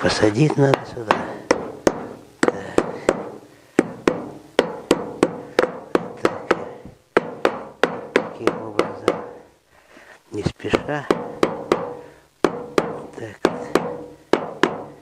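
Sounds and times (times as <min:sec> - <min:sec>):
hammer tapping metal: 0:00.4 - 0:09.5, 0:10.7 - 0:15.0.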